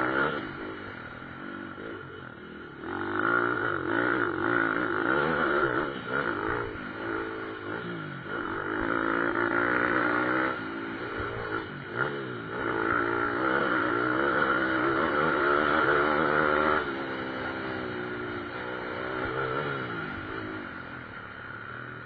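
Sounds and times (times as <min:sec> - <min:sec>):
pit bike engines revving: 0:00.0 - 0:22.0.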